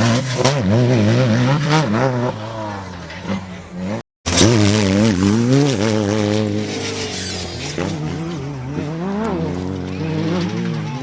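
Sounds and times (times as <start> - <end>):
race vehicle engine revving: 0.0 - 11.0.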